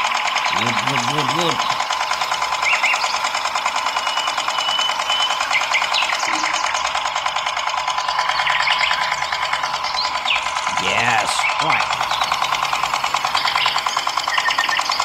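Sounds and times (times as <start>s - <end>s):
small motor rattling buzz: 0.0s - 15.0s.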